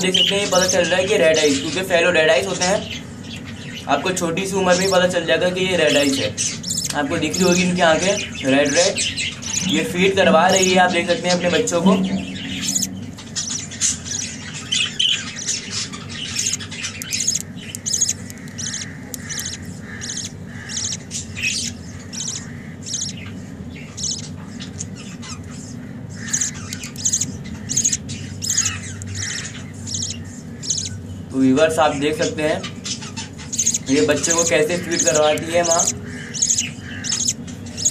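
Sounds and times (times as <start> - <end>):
budgerigars chirping and squawking: 0.0 - 37.9
faint low hum: 4.6 - 37.9.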